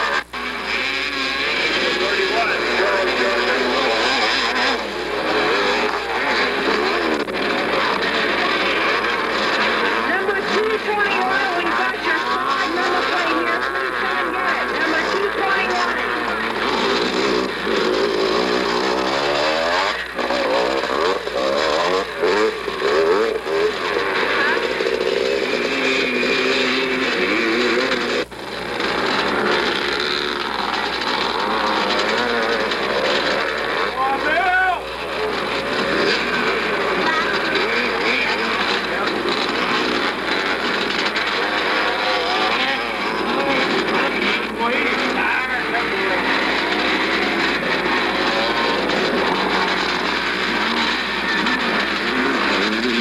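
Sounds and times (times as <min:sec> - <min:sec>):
distant motorcycle engines revving: 0:00.0 - 0:53.0.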